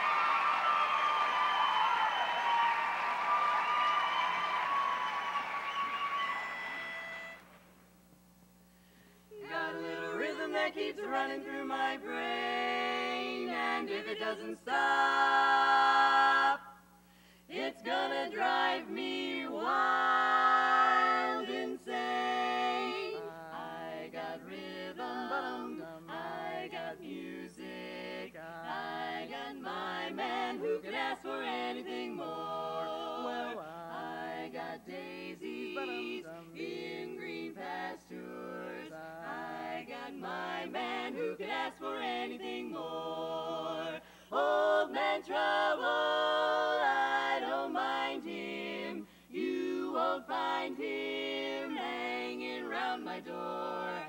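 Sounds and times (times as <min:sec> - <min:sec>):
women singing in harmony: 0:09.3 - 0:16.7, 0:17.5 - 0:54.0.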